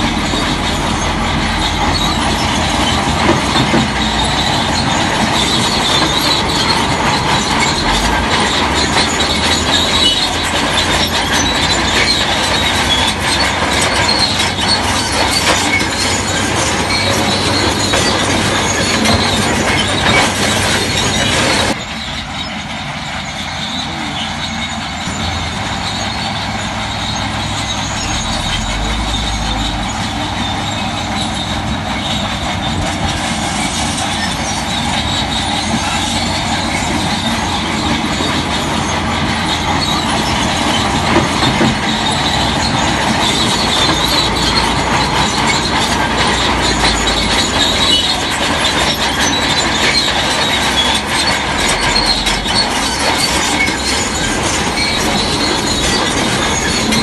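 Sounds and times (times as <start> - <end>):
bulldozer engine: 0.0 - 57.0
steel tracks clanking and squealing: 0.0 - 57.0.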